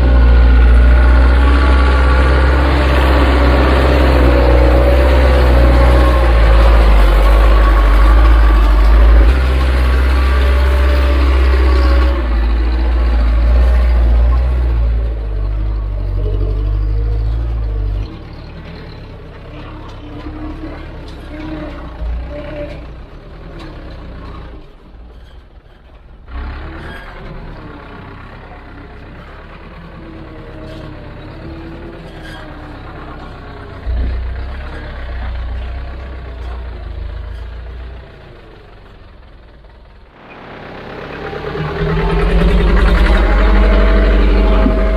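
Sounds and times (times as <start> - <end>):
heavy diesel equipment running: 0.0 - 44.9.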